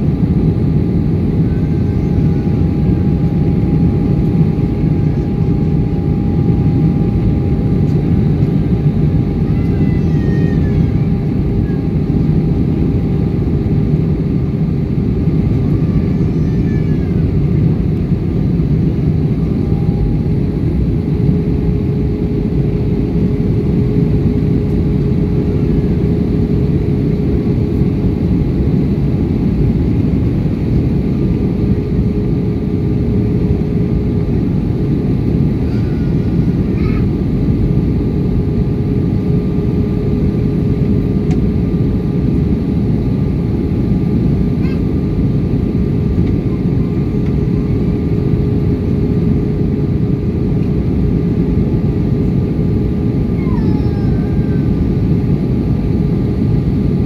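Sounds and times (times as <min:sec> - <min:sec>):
aircraft cabin engine roar: 0:00.0 - 0:57.0
constant hum: 0:00.0 - 0:57.0
faint high hum: 0:00.0 - 0:57.0.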